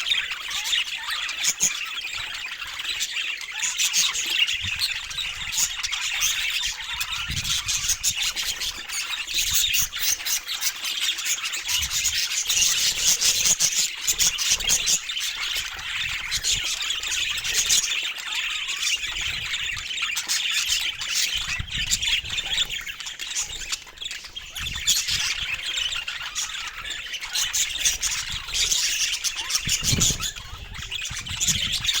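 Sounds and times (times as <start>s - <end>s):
budgerigars chattering: 0.0s - 32.0s.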